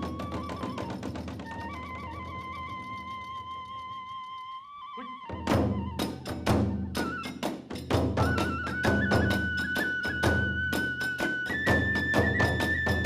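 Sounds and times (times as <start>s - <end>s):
drums: 0.0s - 4.3s, 5.1s - 13.0s
bamboo flute high note: 0.0s - 13.0s.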